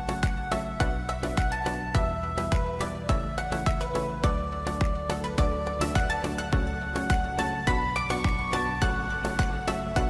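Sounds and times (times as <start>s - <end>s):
music with steady drum beat: 0.0s - 10.0s.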